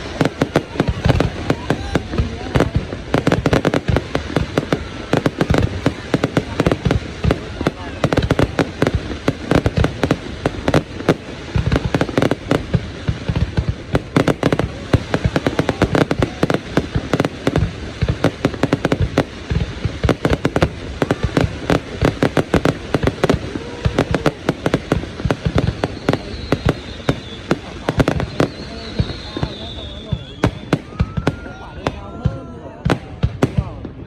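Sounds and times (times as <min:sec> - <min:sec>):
fireworks explosions: 0:00.0 - 0:34.0.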